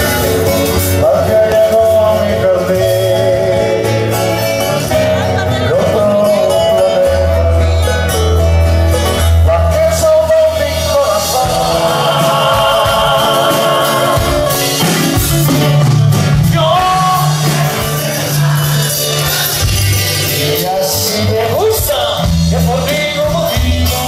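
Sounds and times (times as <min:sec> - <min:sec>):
man singing: 0:00.0 - 0:08.3, 0:09.0 - 0:24.0
acoustic guitar: 0:00.0 - 0:24.0
bass line: 0:00.0 - 0:24.0.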